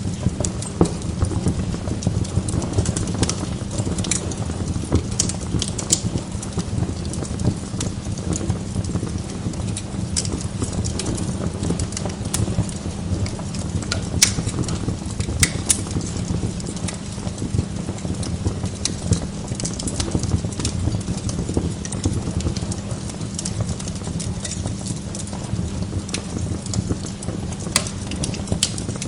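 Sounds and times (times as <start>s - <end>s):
sharp pops from fire: 0.0s - 29.0s
wood fire crackling: 0.0s - 29.0s.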